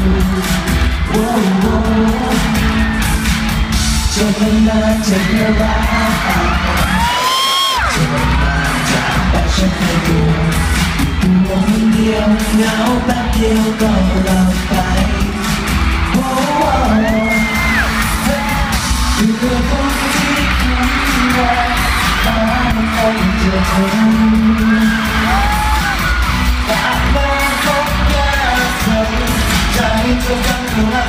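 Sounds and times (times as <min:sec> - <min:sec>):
band playing: 0:00.0 - 0:31.0
fans yelling and whooping: 0:00.0 - 0:31.0
man singing live pop song: 0:00.0 - 0:31.0.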